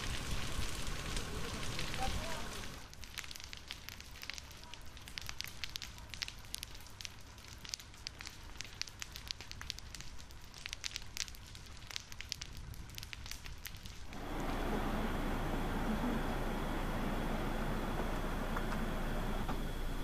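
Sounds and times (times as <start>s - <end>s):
fire crackling and popping: 0.0s - 20.0s
low rumble of fire: 0.0s - 20.0s
steady fire hiss: 0.0s - 20.0s.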